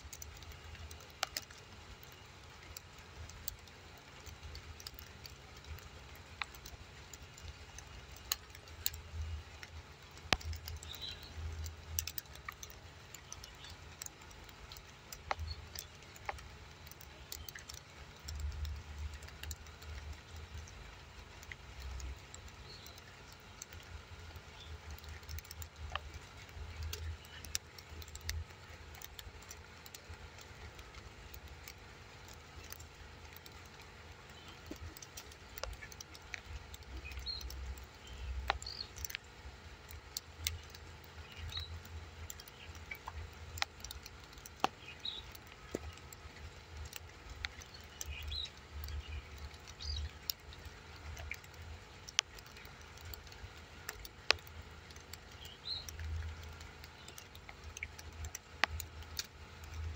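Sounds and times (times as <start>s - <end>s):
sharp clicks: 0.0s - 59.9s.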